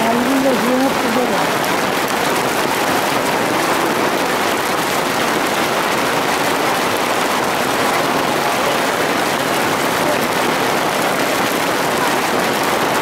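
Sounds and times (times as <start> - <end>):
hail and heavy rain pelting: 0.0 - 13.0.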